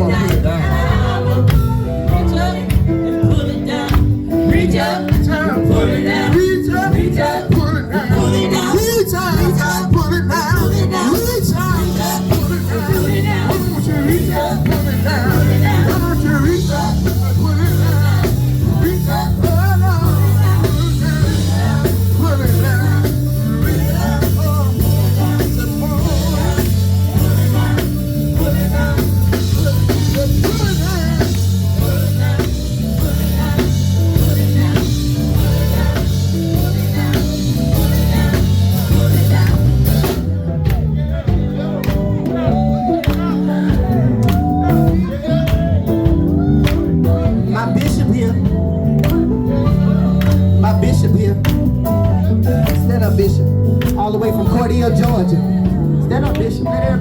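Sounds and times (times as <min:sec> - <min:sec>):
gospel band playing: 0:00.0 - 0:57.0
person singing: 0:04.5 - 0:57.0.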